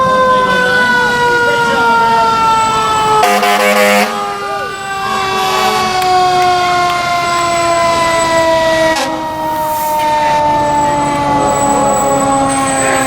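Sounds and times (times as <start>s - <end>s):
distant wavering sirens: 0.0s - 13.0s
fire truck siren winding down: 0.0s - 13.0s.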